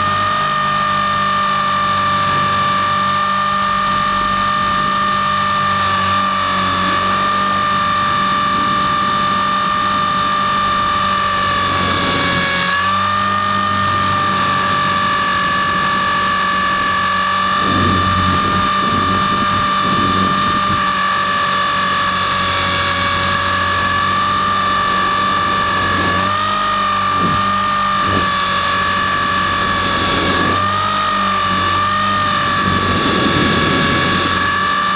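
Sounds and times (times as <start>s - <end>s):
electric motor whining: 0.0s - 34.9s
wind rumble on microphone: 3.9s - 12.8s, 13.4s - 21.5s, 22.2s - 34.8s.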